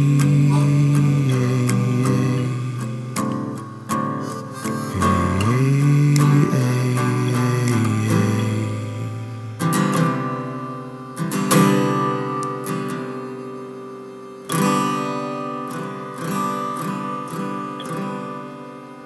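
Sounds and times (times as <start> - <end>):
acoustic guitar strummed chords: 0.0 - 19.0.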